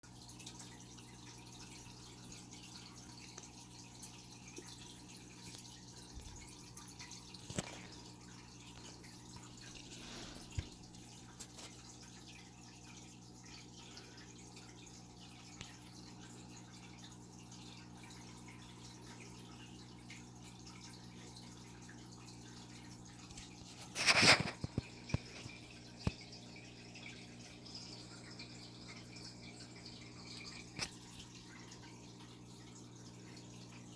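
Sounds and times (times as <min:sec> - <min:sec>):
water dripping and trickling: 0:00.0 - 0:33.9
aquarium equipment hum: 0:00.1 - 0:33.9
small ticks: 0:00.4 - 0:09.8, 0:10.4 - 0:19.7, 0:23.2 - 0:33.9.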